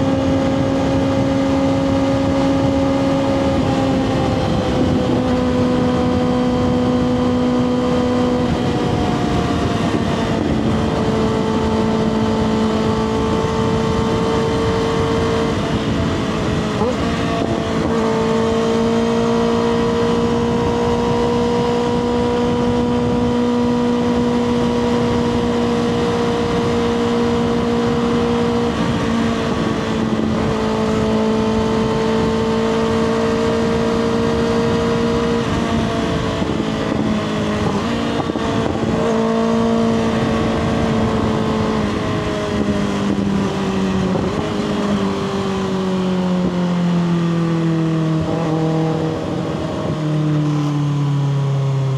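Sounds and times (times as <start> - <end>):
motorcycle engine at high revs: 0.0 - 51.9.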